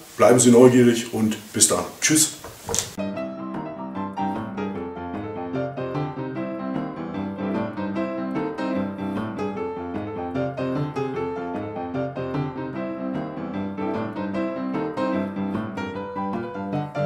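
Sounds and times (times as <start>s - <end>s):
piano music: 2.9s - 17.0s.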